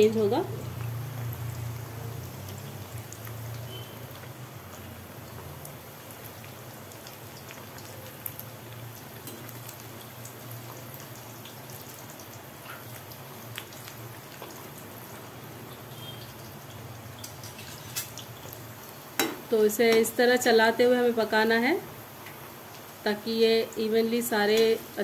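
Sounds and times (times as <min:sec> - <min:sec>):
vegetables deep-frying in oil: 0:00.0 - 0:25.0.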